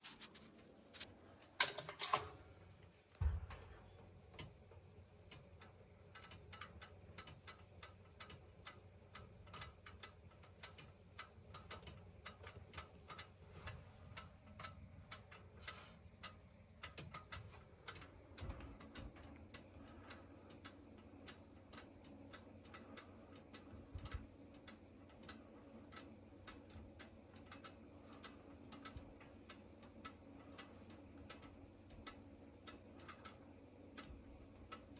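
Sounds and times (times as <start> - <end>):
low steady hum: 0.0 - 34.9
oven igniter ticking: 0.3 - 34.9.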